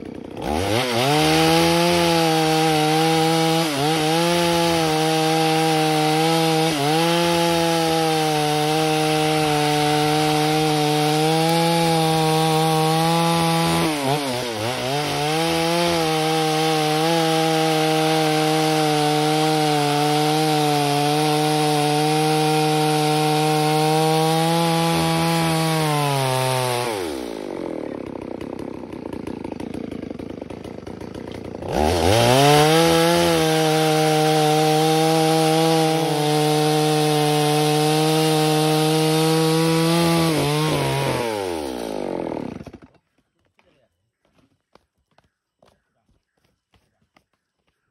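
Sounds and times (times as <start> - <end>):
chainsaw cutting timber: 0.0 - 47.9.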